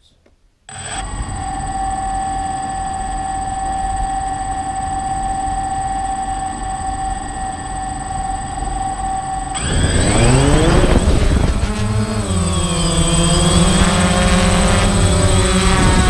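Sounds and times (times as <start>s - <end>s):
drone motors whining: 0.7s - 16.0s.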